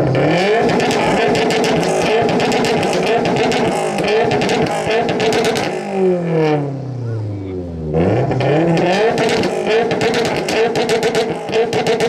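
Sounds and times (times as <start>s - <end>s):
car exhaust revving hard: 0.0s - 12.0s.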